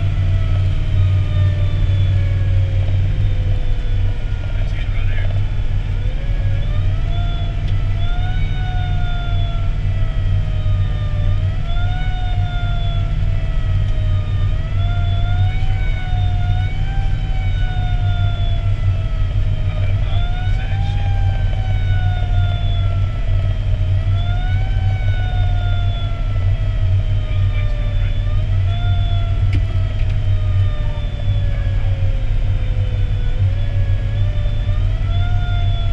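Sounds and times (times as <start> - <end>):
fire engine siren wailing: 0.0 - 35.9
truck engine low drone: 0.0 - 35.9.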